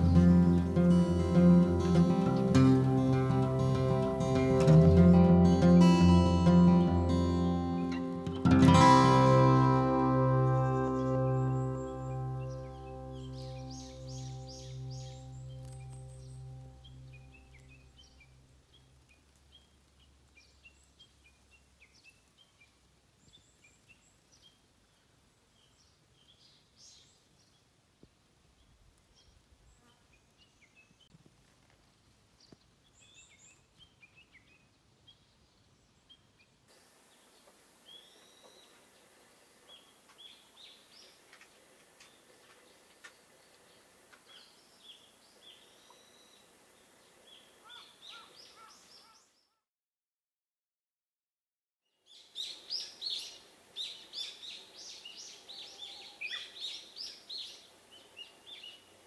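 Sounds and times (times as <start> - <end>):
small birds chirping: 0.0 - 5.6, 6.7 - 27.8, 32.3 - 49.6, 52.0 - 59.0
background hiss: 0.0 - 49.2, 52.1 - 59.0.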